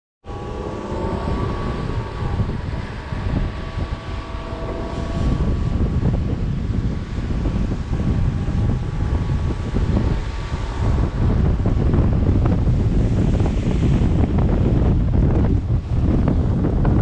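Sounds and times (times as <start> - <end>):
wind buffeting microphone: 0.2 - 17.0
road noise on wet pavement: 0.3 - 17.0.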